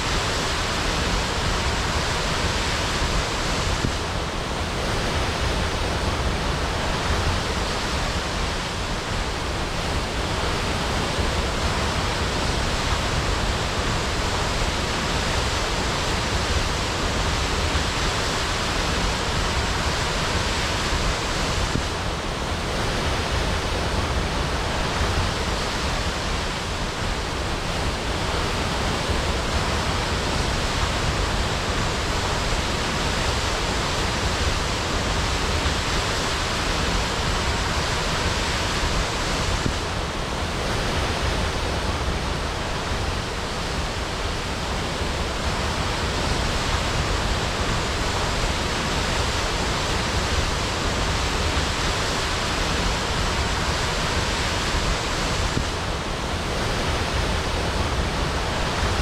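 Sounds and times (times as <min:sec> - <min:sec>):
waterfall crashing: 0:00.0 - 0:59.0.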